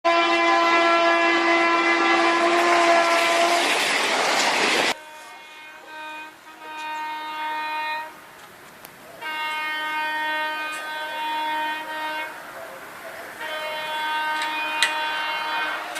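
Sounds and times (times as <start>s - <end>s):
train horn blasts: 0.0s - 3.8s, 4.9s - 8.3s, 9.2s - 12.5s, 13.4s - 15.9s
moving train noise: 0.1s - 15.9s.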